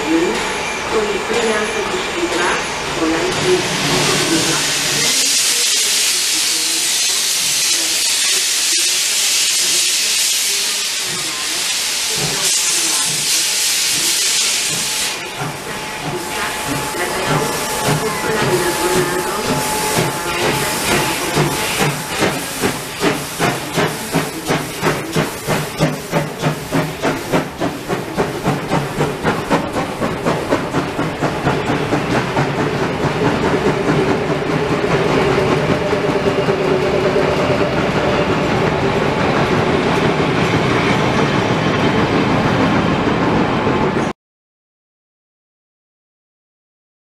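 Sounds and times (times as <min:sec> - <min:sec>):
railbus rumble and wheel clatter: 0:00.0 - 0:07.1, 0:07.7 - 0:44.1
steam locomotive exhaust chuffs: 0:02.3 - 0:43.0.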